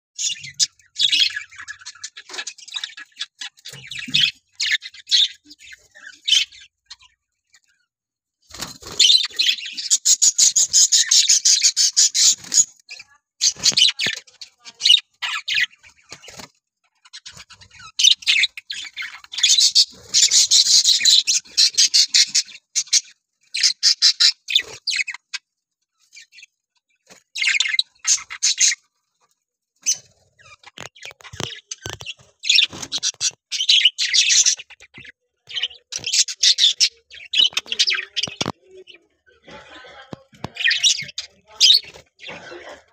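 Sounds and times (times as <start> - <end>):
budgerigars chattering and chirping: 0.2 - 7.8, 8.5 - 29.2, 29.8 - 42.9.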